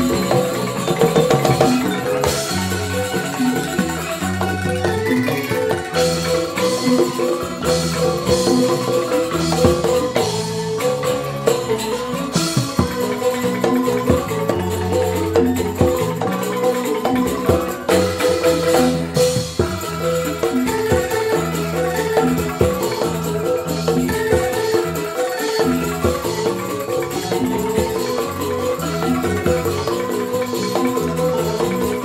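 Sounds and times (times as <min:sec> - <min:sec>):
bamboo xylophones playing: 0:00.0 - 0:32.0
percussion strikes and rattling: 0:00.0 - 0:32.0.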